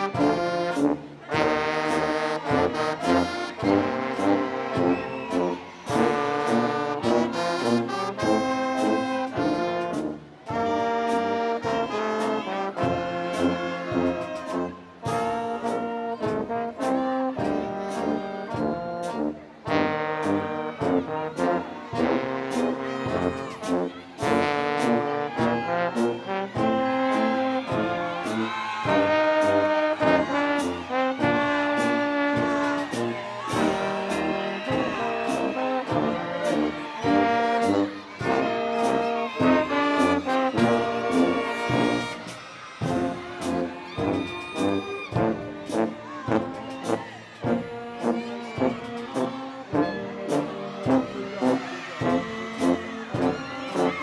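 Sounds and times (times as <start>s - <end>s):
steady drum beat: 0.0s - 11.8s, 12.7s - 49.4s, 50.3s - 54.0s
brass band music: 0.0s - 54.0s.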